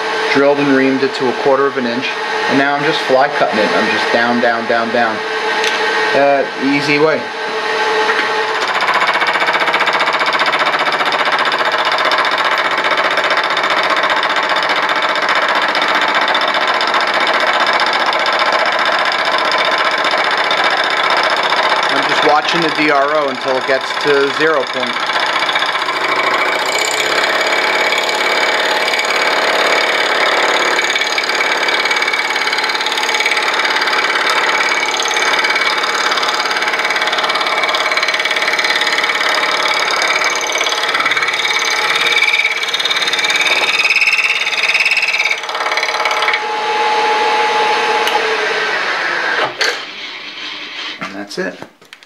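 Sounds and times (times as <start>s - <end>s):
milling machine cutting metal: 0.0s - 50.6s.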